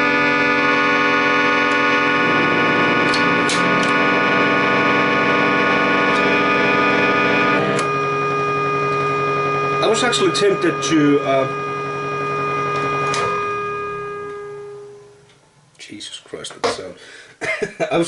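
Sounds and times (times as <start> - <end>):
air organ sustained chords: 0.0 - 15.7.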